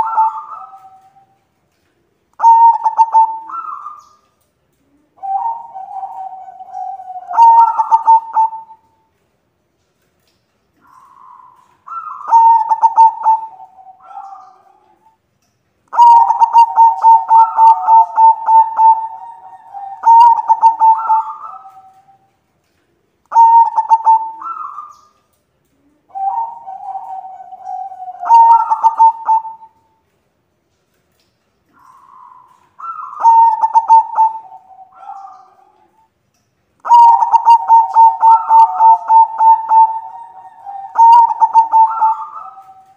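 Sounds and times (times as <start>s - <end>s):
dove cooing: 0.0s - 1.8s, 2.4s - 9.0s, 10.8s - 15.2s, 15.9s - 30.0s, 31.7s - 36.1s, 36.8s - 42.9s.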